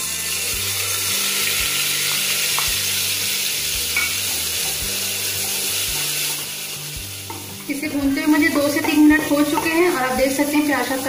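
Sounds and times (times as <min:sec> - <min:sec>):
onion paste sizzling in oil: 0:00.0 - 0:11.0.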